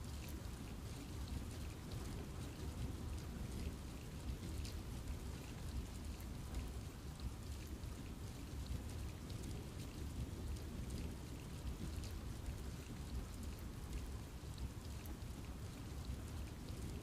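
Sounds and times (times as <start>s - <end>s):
rain falling in forest: 0.0s - 17.0s.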